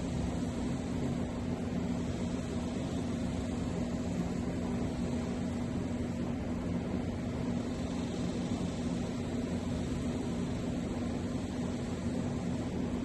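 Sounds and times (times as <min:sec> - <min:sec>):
even hiss: 0:00.0 - 0:13.0.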